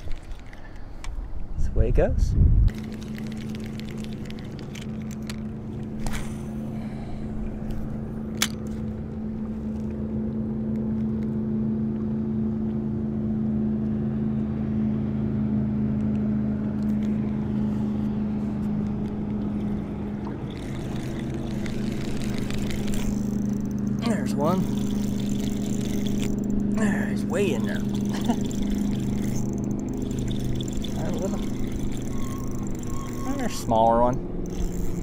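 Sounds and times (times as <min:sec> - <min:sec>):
boat motor humming: 0:02.7 - 0:35.0.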